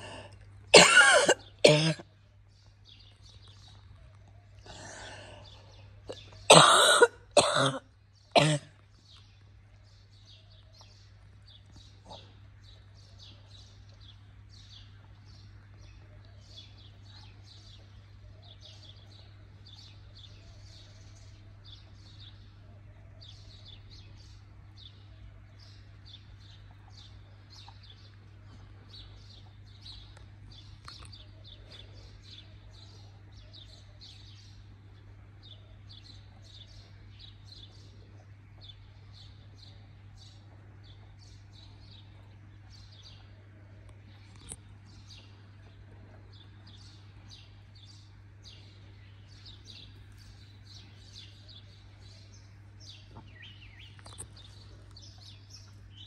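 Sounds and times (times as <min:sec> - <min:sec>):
faint low hum: 0:00.0 - 0:56.0
small birds chirping: 0:00.0 - 0:56.0.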